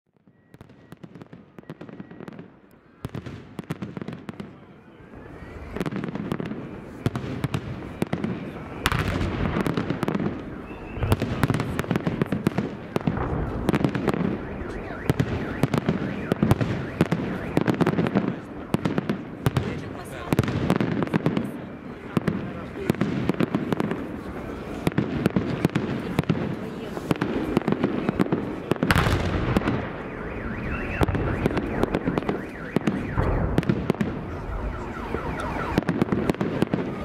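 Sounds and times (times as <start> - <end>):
fireworks bursts and crackle: 0.1 - 37.0.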